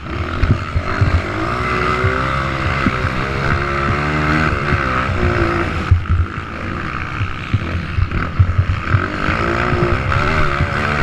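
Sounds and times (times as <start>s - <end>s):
motocross motorcycle engines: 0.0s - 11.0s.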